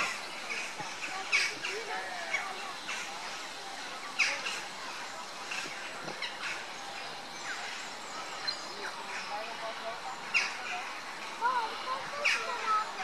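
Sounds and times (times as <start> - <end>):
birds chirping: 0.0 - 13.0
outdoor background hiss: 0.0 - 13.0.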